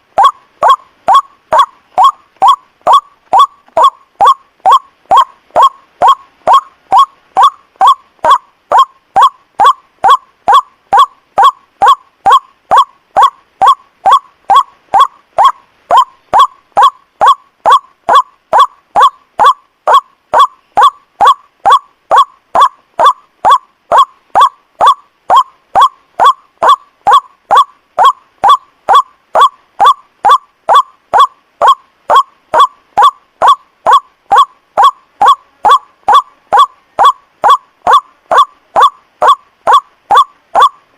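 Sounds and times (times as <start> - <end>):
bird honking call: 0.2 - 40.8.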